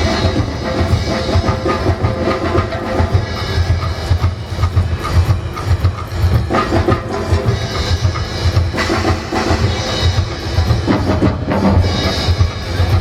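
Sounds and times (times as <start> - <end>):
bass drum beat: 0.0 - 13.0
percussion ensemble playing: 0.0 - 13.0.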